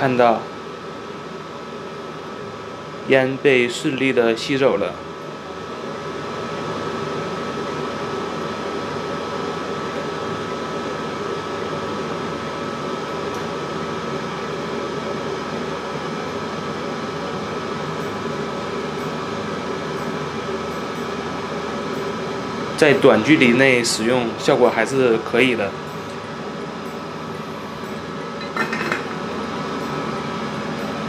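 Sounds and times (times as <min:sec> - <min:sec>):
fan air rushing with whine: 0:00.0 - 0:31.0.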